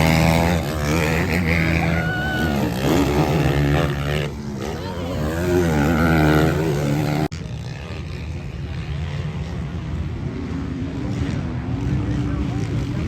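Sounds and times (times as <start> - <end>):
motocross bike engines running: 0.0 - 13.0.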